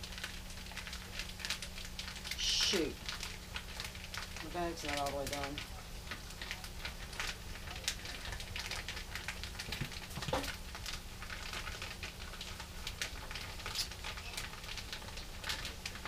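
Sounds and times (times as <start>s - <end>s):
faint pan sizzle: 0.0s - 16.0s
plastic bag crinkling: 0.0s - 16.0s.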